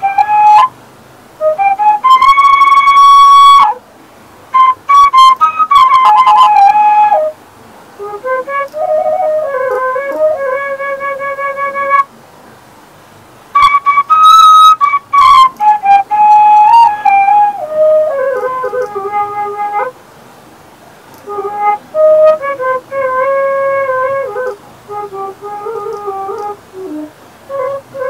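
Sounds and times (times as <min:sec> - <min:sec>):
bamboo flute melody: 0:00.0 - 0:00.8, 0:01.4 - 0:03.8, 0:04.5 - 0:07.4, 0:08.0 - 0:12.1, 0:13.5 - 0:20.0, 0:21.2 - 0:28.0.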